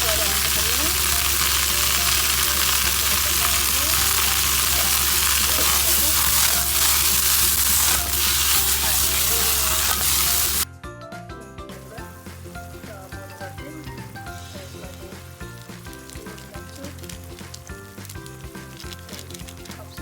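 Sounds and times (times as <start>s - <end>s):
food sizzling in frying pan: 0.0s - 10.7s, 11.9s - 20.0s
soft background music: 0.0s - 20.0s.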